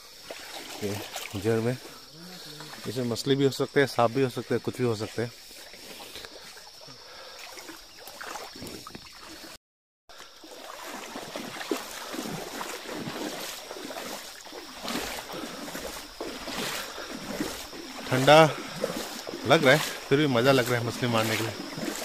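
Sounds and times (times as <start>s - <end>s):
river water sloshing and splashing: 0.0s - 22.0s.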